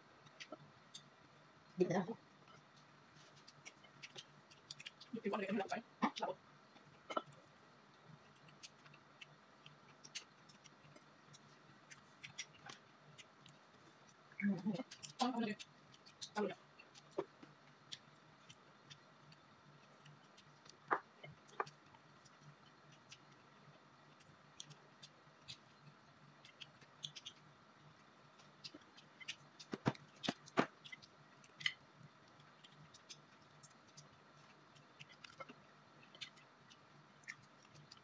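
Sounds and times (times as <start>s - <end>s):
faint steady hum: 0.0s - 38.0s
chewing and crunching: 0.1s - 1.4s, 2.2s - 38.0s.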